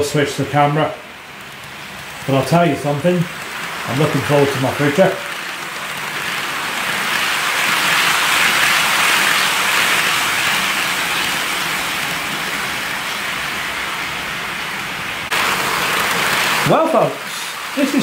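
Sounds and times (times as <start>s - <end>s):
model train rushing past: 0.0s - 18.0s.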